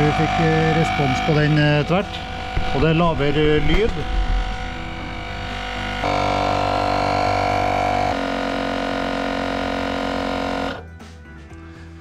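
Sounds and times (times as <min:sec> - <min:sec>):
tyre compressor droning hum: 0:00.0 - 0:12.0.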